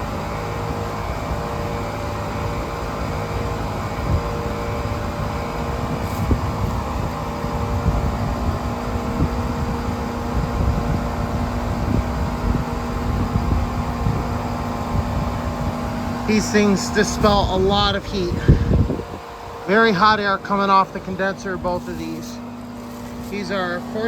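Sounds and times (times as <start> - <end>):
compressor humming: 0.0 - 24.0
rush of condenser fans: 0.0 - 24.0.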